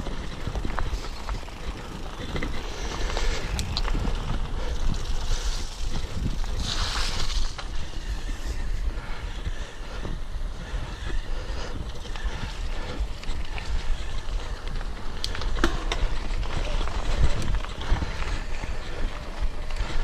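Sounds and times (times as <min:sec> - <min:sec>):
bike rattling and knocking: 0:00.0 - 0:08.6, 0:09.6 - 0:20.0
bike tyres rumbling: 0:00.0 - 0:20.0
wind buffeting microphone: 0:00.0 - 0:20.0.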